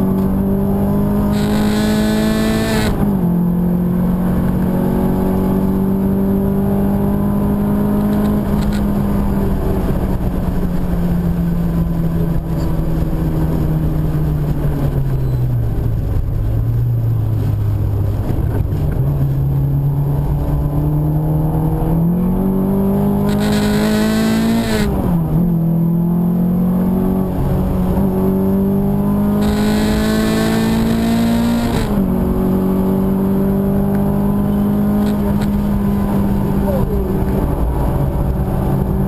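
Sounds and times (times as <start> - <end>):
car engine pulling hard: 0.0 - 39.0.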